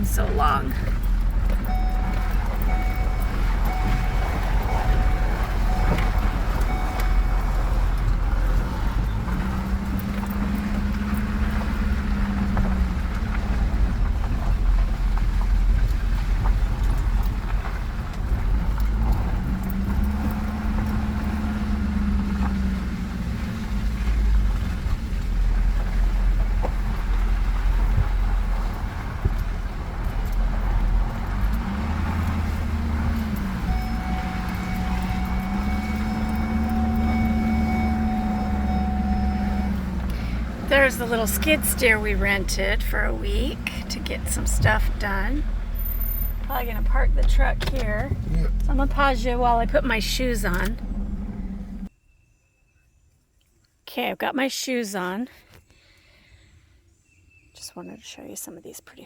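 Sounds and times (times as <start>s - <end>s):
truck engine and tyres rumbling: 0.0s - 51.9s.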